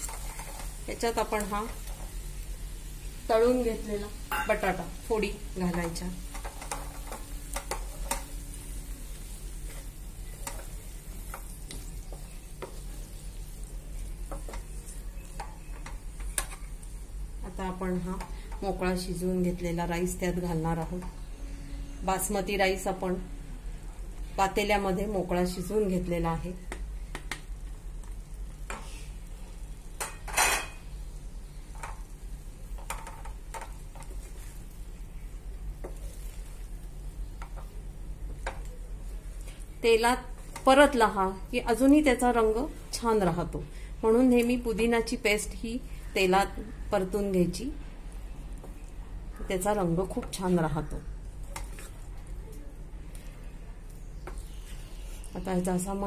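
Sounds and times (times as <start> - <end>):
light frying sizzle: 0.0 - 56.0
low steady hum: 0.0 - 56.0.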